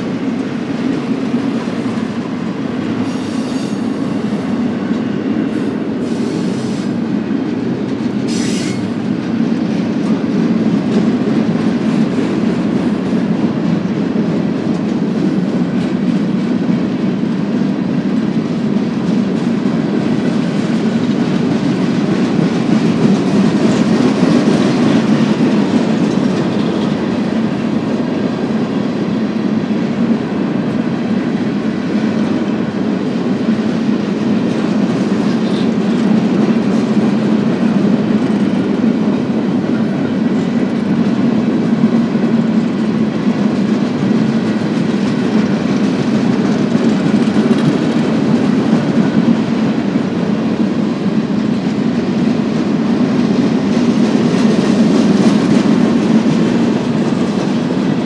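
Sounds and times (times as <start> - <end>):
freight train wheels rumbling: 0.0 - 58.0
wheels clicking over rail joints: 0.0 - 58.0.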